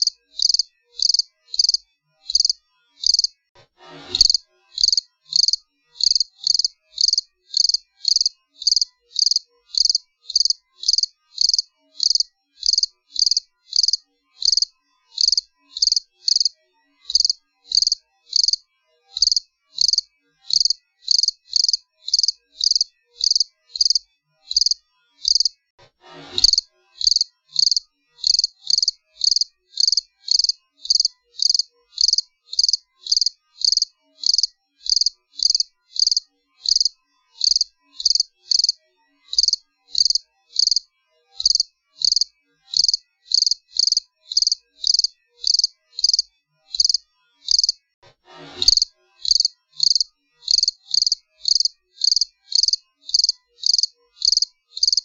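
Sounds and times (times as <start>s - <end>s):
cricket chirping: 0.0s - 3.3s, 4.3s - 16.5s, 17.1s - 18.6s, 19.2s - 25.5s, 26.4s - 40.8s, 41.4s - 47.8s, 48.6s - 55.0s.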